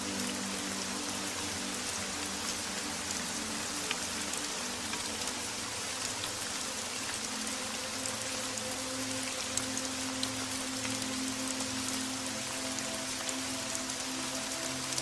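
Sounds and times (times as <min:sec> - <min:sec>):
soft music with low notes: 0:00.0 - 0:15.0
steady rain falling: 0:00.0 - 0:15.0.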